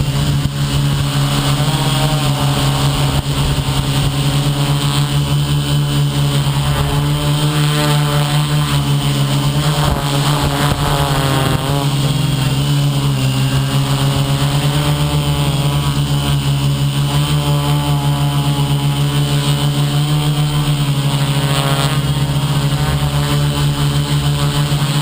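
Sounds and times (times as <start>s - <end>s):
model aircraft motors humming: 0.0s - 25.0s.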